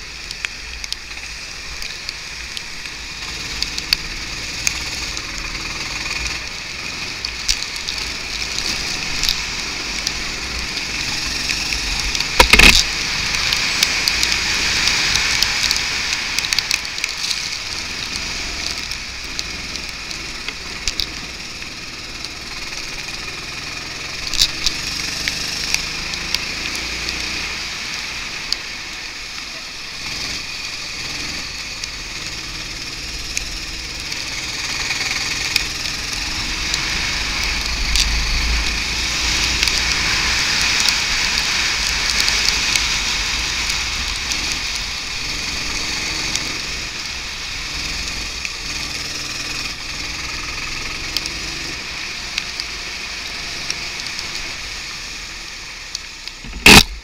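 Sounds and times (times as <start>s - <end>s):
go-kart engine: 0.0s - 57.0s.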